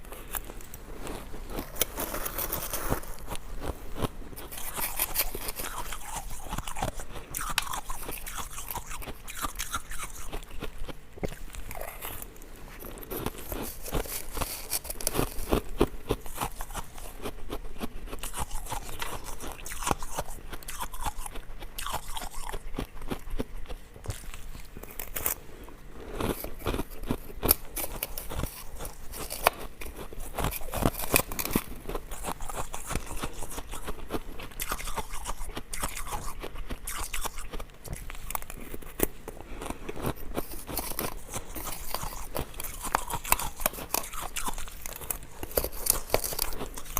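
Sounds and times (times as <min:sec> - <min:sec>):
ice cubes crunching when chewed: 0:00.0 - 0:46.9.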